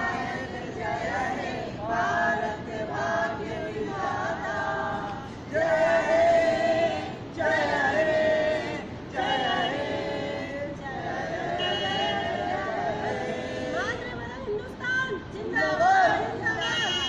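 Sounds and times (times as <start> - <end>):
group singing in unison: 0.0 - 14.2, 15.4 - 17.0.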